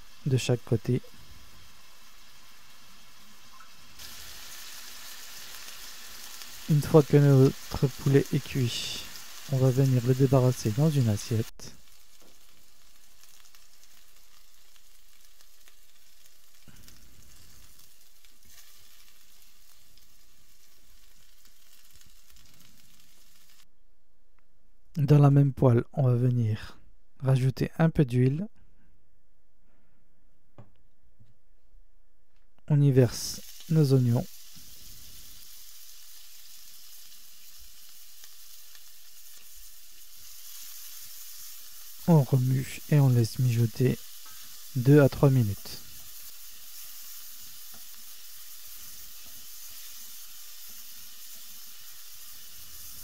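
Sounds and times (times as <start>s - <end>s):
meat sizzling in hot oil: 0.0s - 23.7s, 32.9s - 53.0s.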